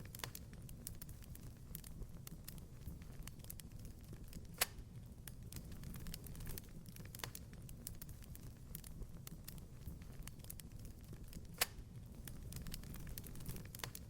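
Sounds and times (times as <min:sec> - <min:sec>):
fire snapping: 0:00.0 - 0:14.0
low rumble of flames: 0:00.0 - 0:14.0.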